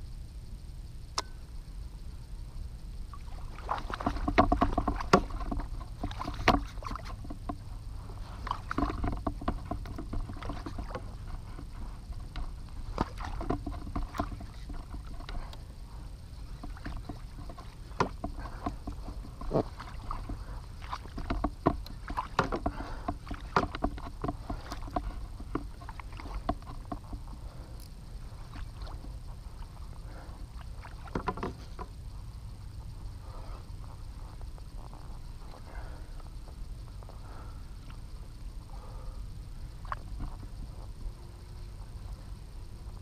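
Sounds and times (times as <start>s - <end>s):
steady low rumble: 0.0s - 43.0s
tackle and hull clicking: 3.0s - 43.0s.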